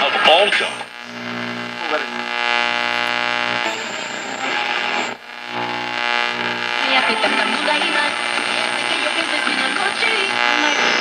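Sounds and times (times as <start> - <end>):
am radio broadcast: 0.0 - 11.0
radio music with static: 0.0 - 11.0
steady hum: 0.0 - 11.0.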